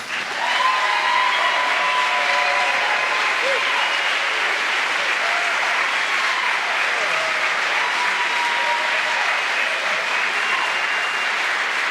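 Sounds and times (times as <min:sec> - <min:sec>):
audience applauding: 0:00.0 - 0:11.9
shouts in crowd: 0:00.3 - 0:11.4.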